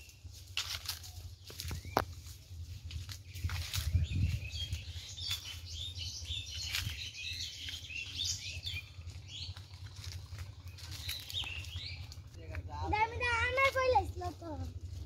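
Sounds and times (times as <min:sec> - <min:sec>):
low rumble: 0:00.0 - 0:15.0
small birds chirping: 0:00.0 - 0:15.0.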